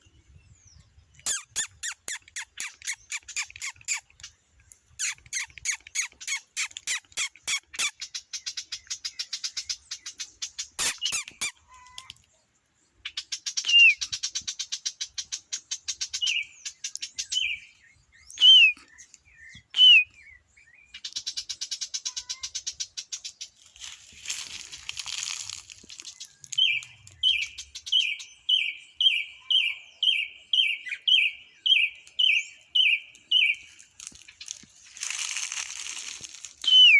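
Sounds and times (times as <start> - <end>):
songbird calling and trilling: 0.0 - 36.9.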